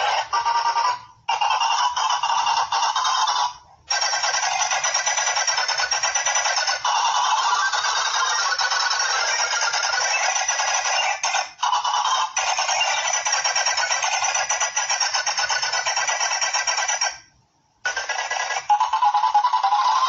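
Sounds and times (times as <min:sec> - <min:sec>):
rapid clicking: 0:00.0 - 0:20.0.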